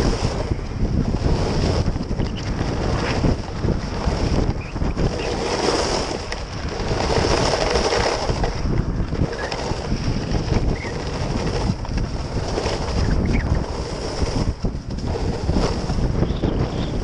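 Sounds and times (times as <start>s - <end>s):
skis sliding on hard snow: 0.0s - 17.0s
wind buffeting microphone: 0.0s - 17.0s.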